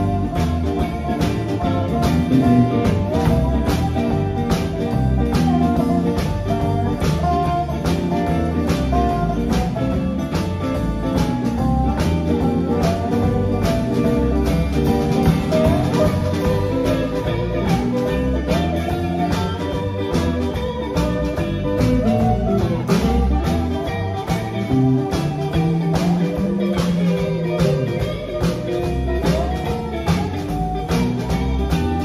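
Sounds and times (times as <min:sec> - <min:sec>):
drum kit beat: 0:00.0 - 0:32.0
electric bass: 0:00.0 - 0:32.0
electric guitars: 0:00.0 - 0:32.0.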